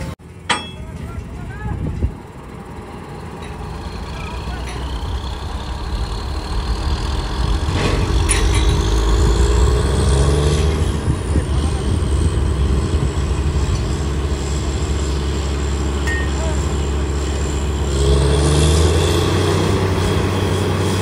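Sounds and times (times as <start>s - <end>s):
diesel engines running hard: 0.0s - 21.0s.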